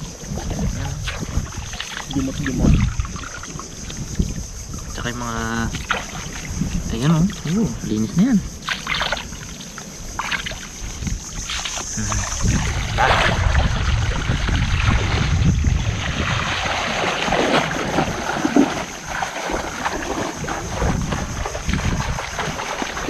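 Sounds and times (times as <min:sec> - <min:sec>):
water sloshing and splashing: 0:00.0 - 0:23.0
wind rumbling on microphone: 0:00.0 - 0:23.0.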